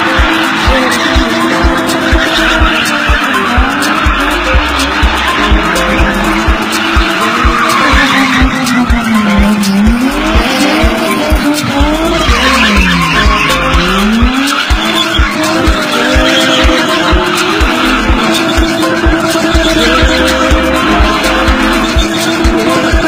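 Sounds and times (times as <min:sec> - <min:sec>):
car engine revving: 0:00.0 - 0:23.0
music with thumping beat: 0:00.0 - 0:23.0
tyres skidding and squealing: 0:00.0 - 0:23.0.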